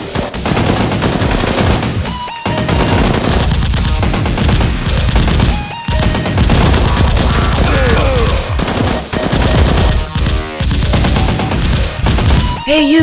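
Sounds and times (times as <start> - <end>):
background music: 0.0 - 13.0
automatic gunfire bursts: 0.3 - 13.0.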